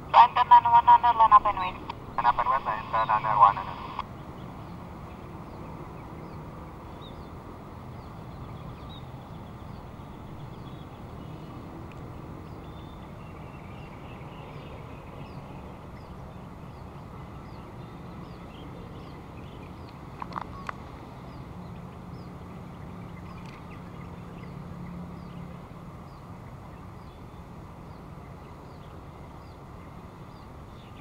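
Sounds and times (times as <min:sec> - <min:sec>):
distant jet engines rumbling: 0:00.0 - 0:26.8.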